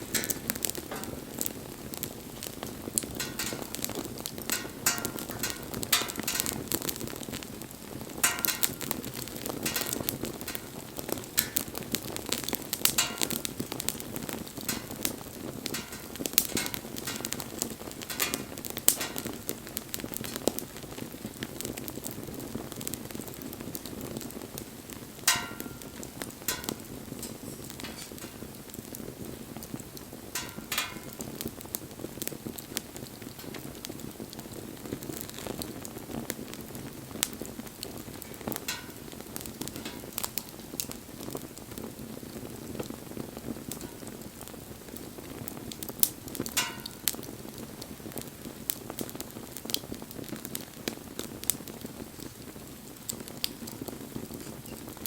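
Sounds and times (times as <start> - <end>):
rush of flame: 0.0 - 55.0
wood fire crackling and popping: 0.0 - 55.0.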